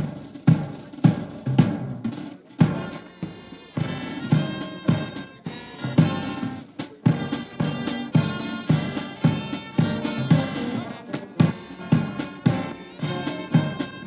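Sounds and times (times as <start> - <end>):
steady drum beat: 0.0 - 14.0
pitched instruments: 0.2 - 14.0.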